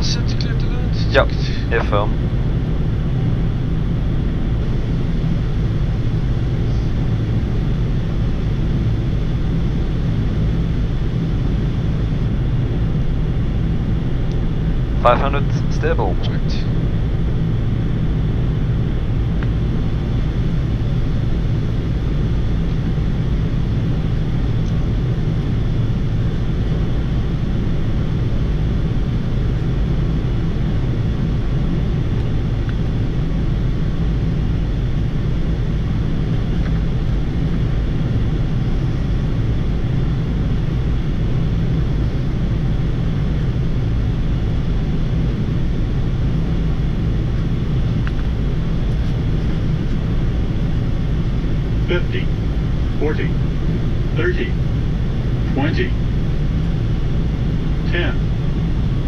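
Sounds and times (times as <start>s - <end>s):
airliner cockpit rumble and hiss: 0.0s - 59.0s.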